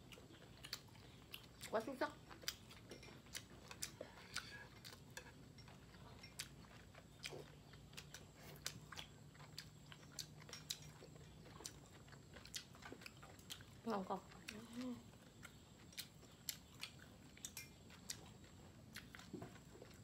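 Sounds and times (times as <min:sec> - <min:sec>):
chewing and biting food: 0:00.0 - 0:20.0.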